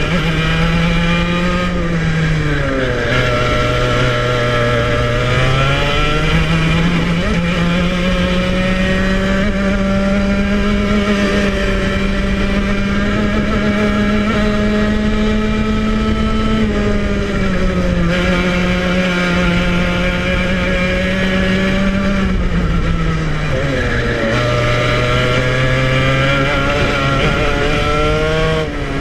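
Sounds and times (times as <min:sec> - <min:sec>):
two-stroke kart engine revving: 0:00.0 - 0:29.0.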